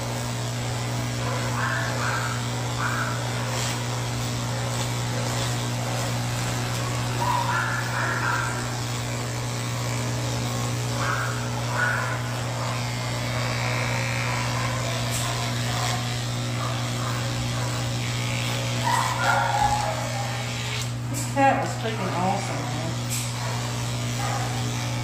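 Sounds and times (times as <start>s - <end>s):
electric pet clippers humming: 0.0s - 25.0s.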